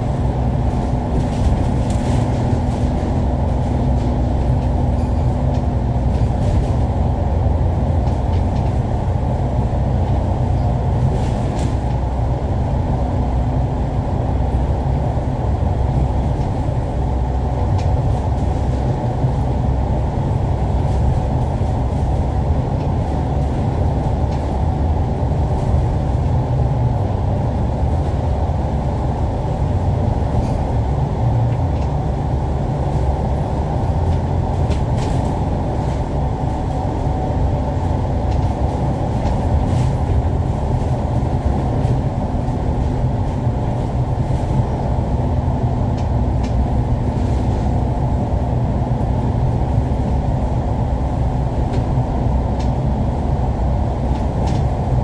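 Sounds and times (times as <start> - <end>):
vehicle engine and tyre noise: 0.0 - 55.0.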